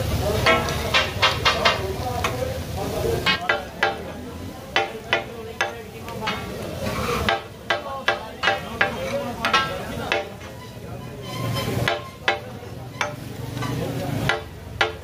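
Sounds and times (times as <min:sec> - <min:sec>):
frying sizzle: 0:00.0 - 0:15.0
metal spatulas clanging on iron pan: 0:00.2 - 0:02.5, 0:03.2 - 0:15.0.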